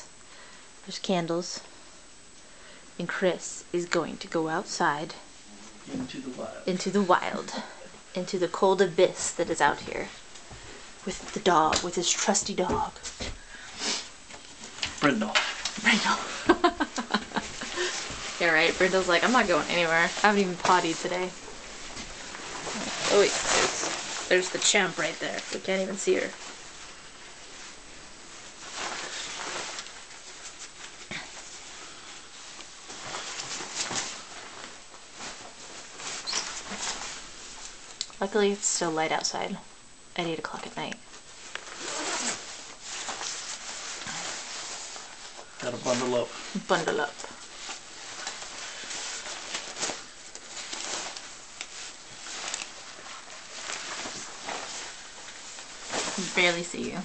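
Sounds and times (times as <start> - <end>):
dog rustling and shuffling: 8.5 - 39.1, 40.6 - 57.0.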